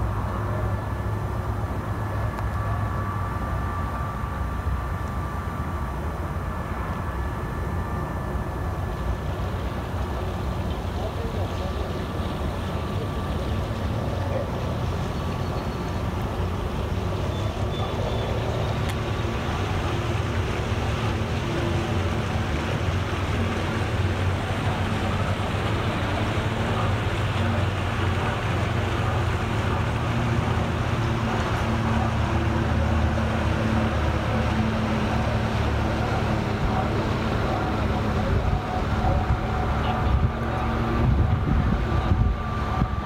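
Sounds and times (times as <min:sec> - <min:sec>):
motorboat engine hum: 0:00.0 - 0:43.0.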